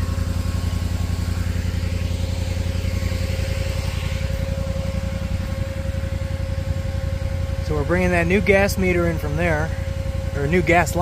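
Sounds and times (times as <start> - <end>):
trencher engine idling: 0.0 - 11.0.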